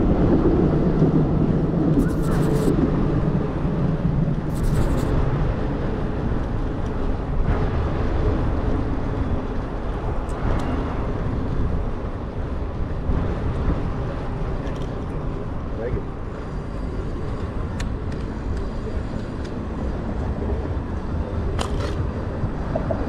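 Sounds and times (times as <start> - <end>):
bicycle road noise: 0.0 - 23.0
motor traffic: 0.0 - 23.0
wind rumble on microphone: 0.0 - 23.0.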